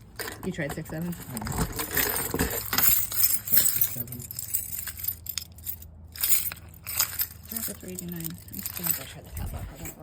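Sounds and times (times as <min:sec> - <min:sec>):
keys jangling: 0:01.1 - 0:10.0.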